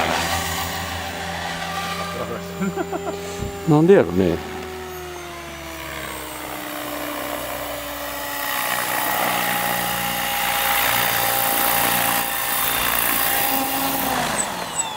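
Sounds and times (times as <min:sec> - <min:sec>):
model helicopter motor whining: 0:00.0 - 0:14.9.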